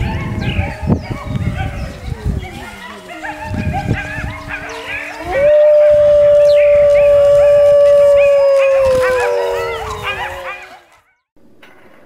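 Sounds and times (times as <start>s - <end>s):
wolf howling: 0.2s - 10.8s.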